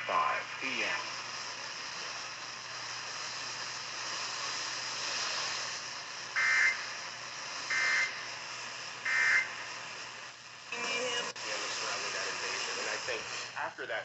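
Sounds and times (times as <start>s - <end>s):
radio hiss: 0.0s - 14.0s.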